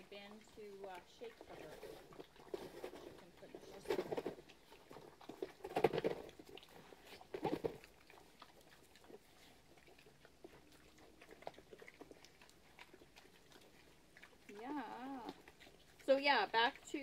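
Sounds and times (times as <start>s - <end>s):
pigs grunting: 0.0s - 17.0s
pigs munching feed: 0.0s - 17.0s.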